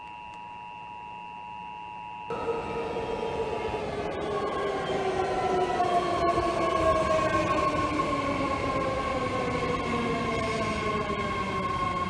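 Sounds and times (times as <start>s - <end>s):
train rumble: 2.3s - 12.0s
train whining as it slows: 2.3s - 12.0s.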